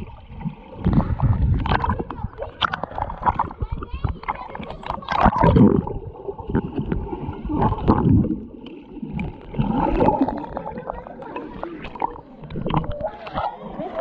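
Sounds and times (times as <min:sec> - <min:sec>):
muffled underwater water sloshing: 0:00.0 - 0:14.0.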